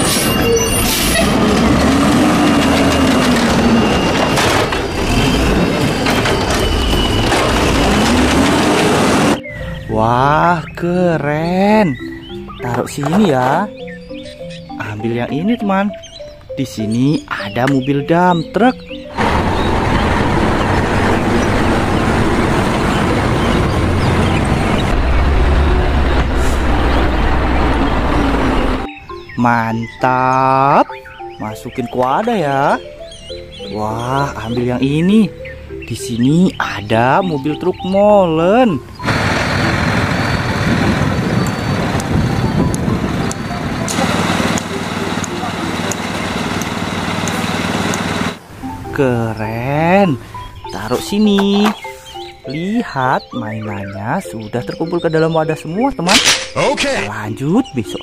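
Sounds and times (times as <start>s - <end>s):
truck engine rumbling: 0.0s - 30.0s, 30.9s - 58.0s.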